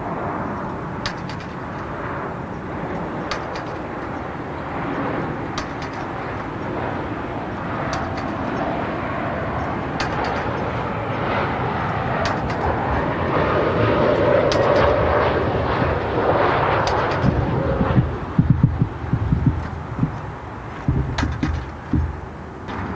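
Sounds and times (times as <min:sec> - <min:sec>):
jet engines rumbling: 0:00.0 - 0:22.9.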